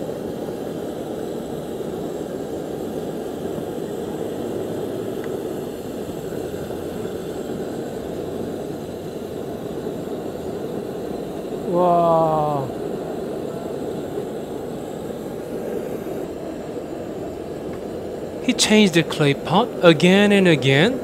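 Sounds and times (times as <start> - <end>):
gas burner roaring: 0.0 - 21.0.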